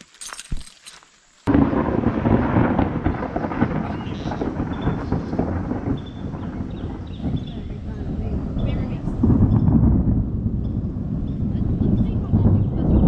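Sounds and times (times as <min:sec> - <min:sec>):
thunder rumbling: 0:01.5 - 0:13.0.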